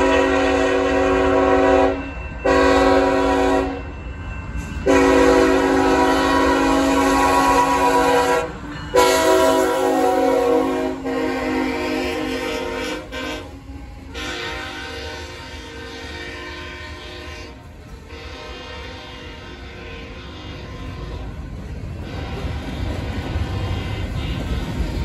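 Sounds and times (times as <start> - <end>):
locomotive air horn blasts: 0.0 - 3.9, 4.8 - 21.4, 22.0 - 25.0.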